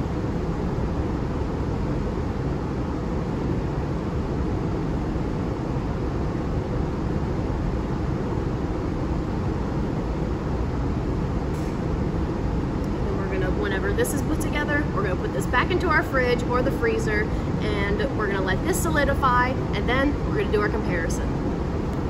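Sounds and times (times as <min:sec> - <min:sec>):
low room noise rumble: 0:00.0 - 0:22.0.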